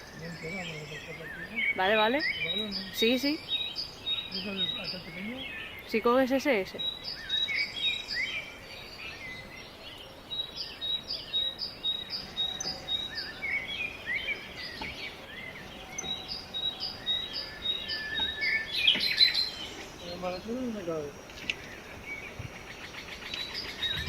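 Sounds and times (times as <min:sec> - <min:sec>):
birds chirping: 0:00.0 - 0:24.0
faint outdoor background noise: 0:00.0 - 0:24.0.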